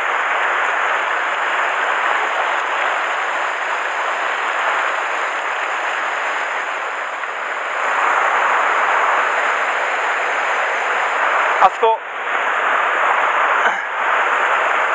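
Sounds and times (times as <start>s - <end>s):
stream rushing over rocks: 0.0s - 14.9s.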